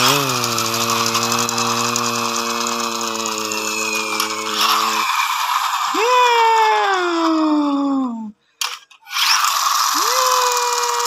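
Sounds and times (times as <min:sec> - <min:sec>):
toy forklift rattling on concrete: 0:00.0 - 0:06.6, 0:08.6 - 0:11.0.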